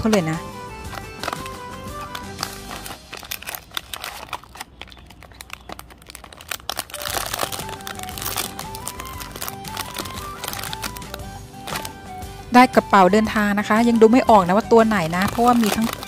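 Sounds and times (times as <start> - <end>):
background music: 0.0 - 4.4, 6.4 - 16.0
foil bag crinkling and tearing: 0.8 - 12.3, 14.0 - 16.0.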